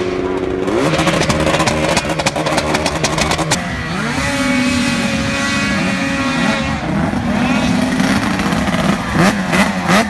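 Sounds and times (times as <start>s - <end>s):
snowmobile engines revving: 0.0s - 10.0s.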